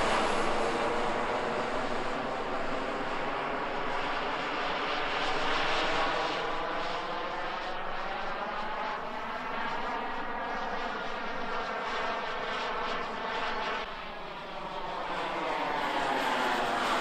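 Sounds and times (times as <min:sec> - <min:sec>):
model jet turbine roar: 0:00.0 - 0:17.0.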